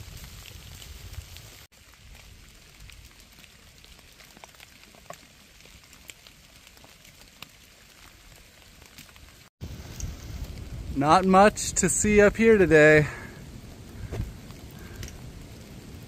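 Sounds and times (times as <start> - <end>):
light rain hiss: 0.0 - 16.0
rain drips: 0.0 - 16.0.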